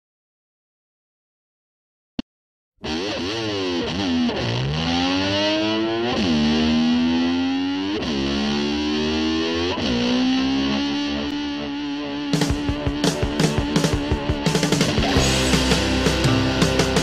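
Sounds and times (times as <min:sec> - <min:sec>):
distorted electric slide guitar: 0:02.8 - 0:17.0.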